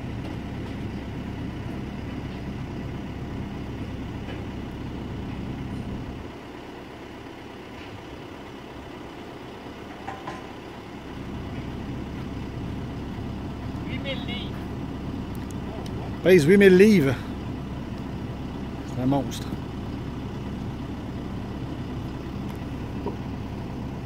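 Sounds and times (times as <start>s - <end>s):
crane engine running: 0.0s - 24.0s.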